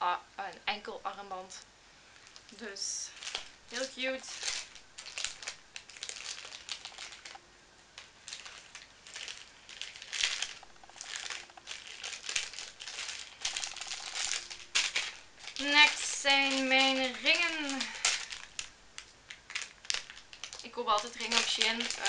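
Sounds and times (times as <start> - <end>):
plastic bag crinkling: 2.2 - 7.4, 8.0 - 22.0.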